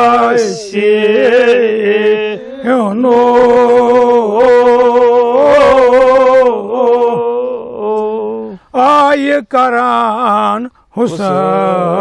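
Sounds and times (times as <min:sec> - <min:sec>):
man chanting unaccompanied: 0:00.0 - 0:12.0.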